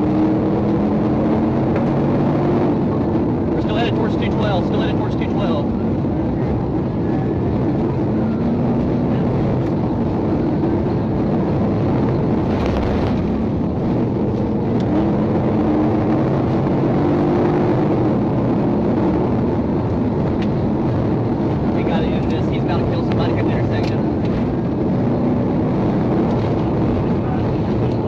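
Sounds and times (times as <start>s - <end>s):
car engine at speed: 0.0s - 28.0s
road noise: 0.0s - 28.0s.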